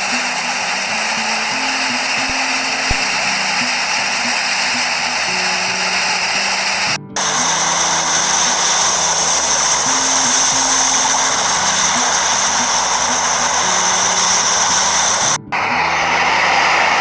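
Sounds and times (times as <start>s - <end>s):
sea surf rushing: 0.0s - 17.0s
soft music of low notes: 0.0s - 17.0s.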